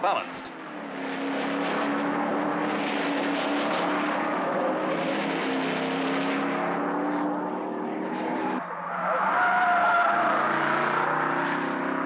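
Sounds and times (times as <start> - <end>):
racing car engine at speed: 0.0 - 12.0.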